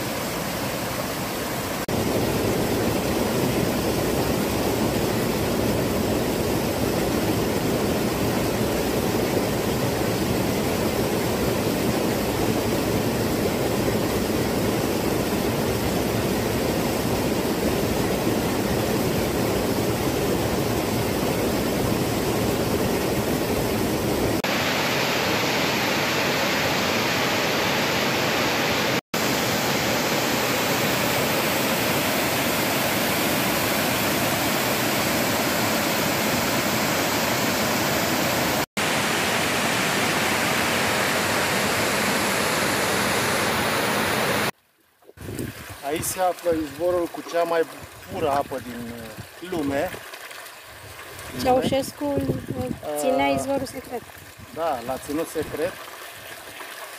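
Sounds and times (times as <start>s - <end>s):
waterfall rushing: 0.0s - 44.6s, 45.8s - 49.8s.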